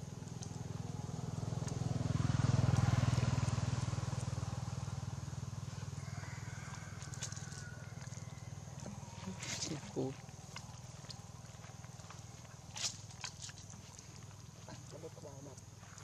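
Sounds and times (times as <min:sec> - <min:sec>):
vehicle engine passing by: 0:00.0 - 0:16.0.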